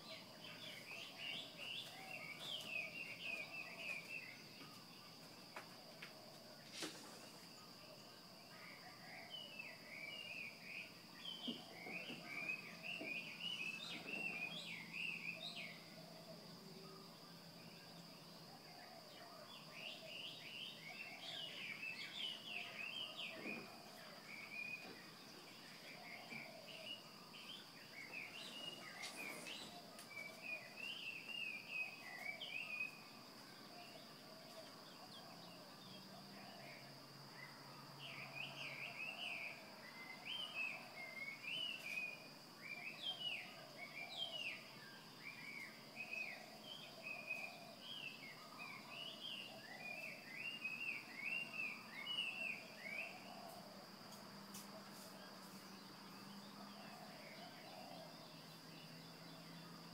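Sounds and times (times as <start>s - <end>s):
birds chirping and singing: 0.0s - 6.5s, 7.5s - 16.4s, 17.6s - 59.9s.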